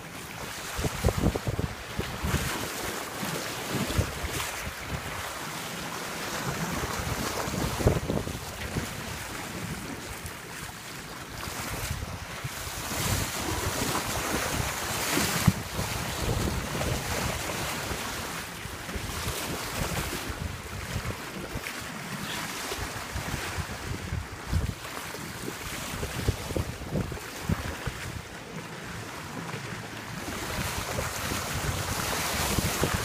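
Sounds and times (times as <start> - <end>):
water splashing along a hull: 0.0 - 33.0
wind buffeting microphone: 0.5 - 3.0, 3.6 - 5.4, 6.4 - 10.4, 11.4 - 28.4, 30.0 - 33.0.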